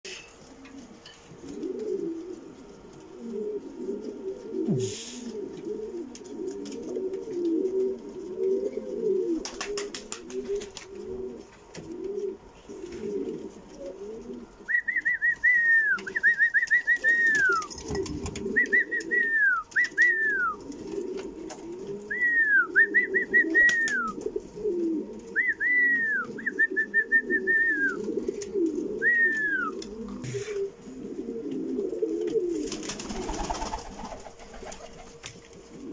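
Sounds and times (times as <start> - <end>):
pigeons cooing: 0.1 - 35.9.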